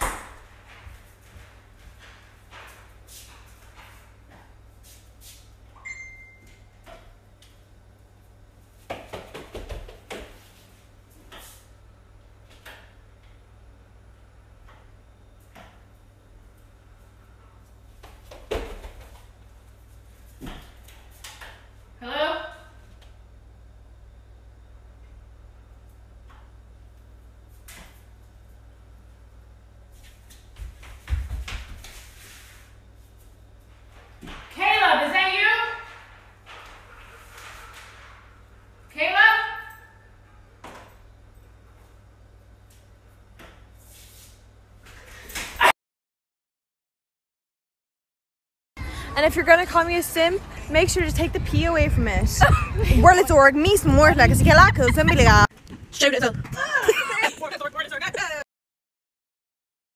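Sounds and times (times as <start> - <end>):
steady low hum: 0.0 - 45.4, 48.8 - 58.4.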